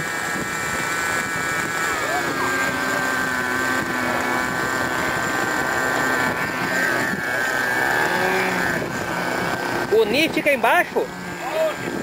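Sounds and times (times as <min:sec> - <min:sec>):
model helicopter whine: 0:00.0 - 0:12.0
wind noise on microphone: 0:00.0 - 0:12.0.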